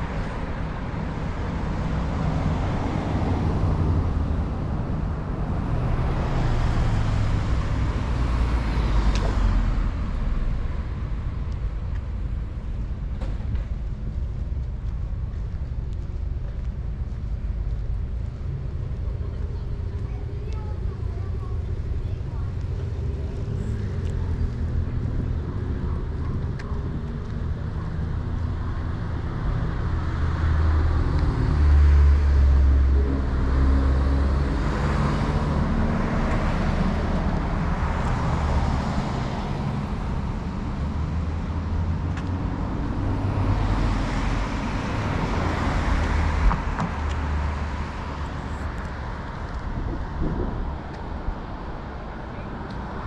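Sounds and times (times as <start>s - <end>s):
cars driving past: 0.0s - 15.3s, 17.0s - 53.0s.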